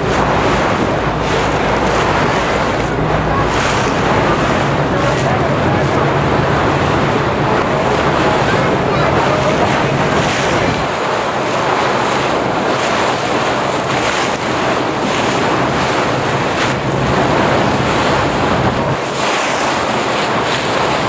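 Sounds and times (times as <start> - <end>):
boat engine humming: 0.0 - 21.0
water rushing and splashing: 0.0 - 21.0
wind buffeting microphone: 0.0 - 21.0.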